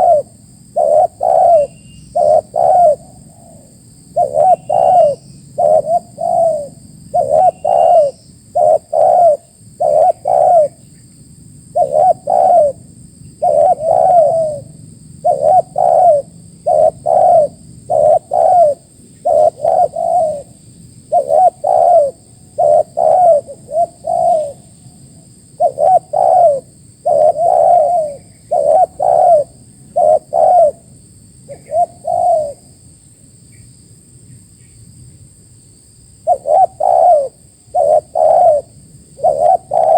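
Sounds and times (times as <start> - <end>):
dove cooing: 0.0 - 10.9, 11.7 - 30.9, 31.5 - 32.7, 36.2 - 39.9.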